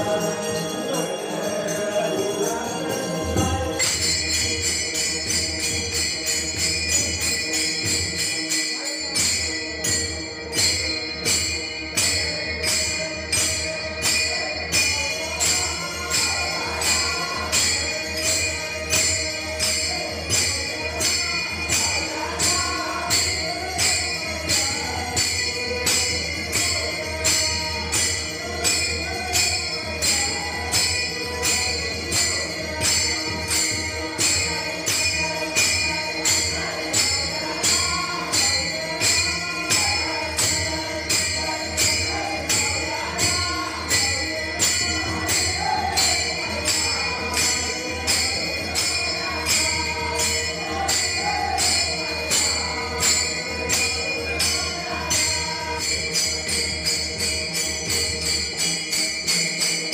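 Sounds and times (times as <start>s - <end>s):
group singing: 0.0s - 59.7s
brass hand cymbals clashing: 0.0s - 59.9s.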